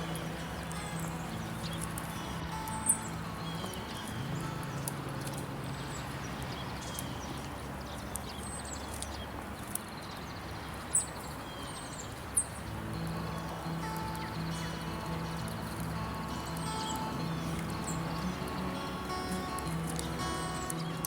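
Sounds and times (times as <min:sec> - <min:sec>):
small birds chirping: 0:00.0 - 0:21.0
steady outdoor hiss: 0:00.0 - 0:21.0.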